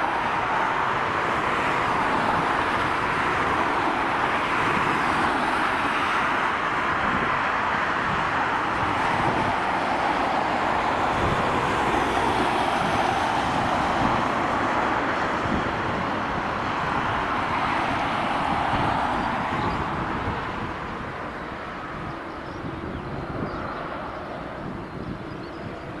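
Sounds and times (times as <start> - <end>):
jet engines whine and rush: 0.0 - 26.0.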